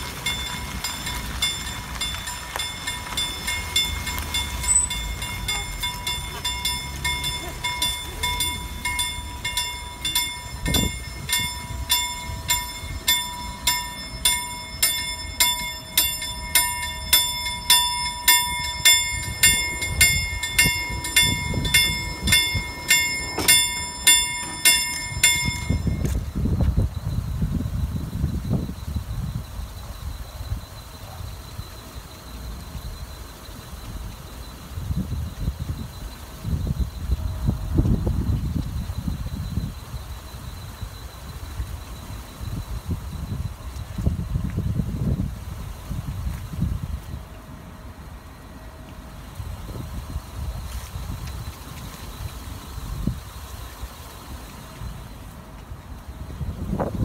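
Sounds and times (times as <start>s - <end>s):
level crossing warning bell: 0.0s - 57.0s.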